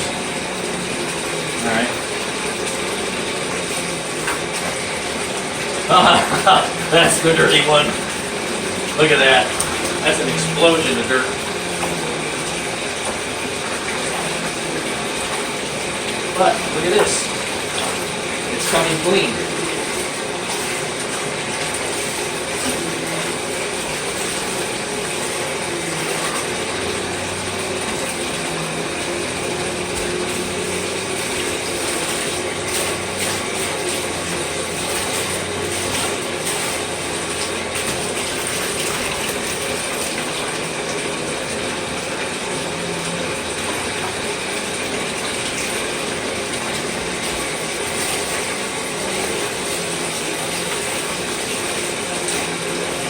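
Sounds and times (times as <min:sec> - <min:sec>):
tap water running: 0:00.0 - 0:53.0.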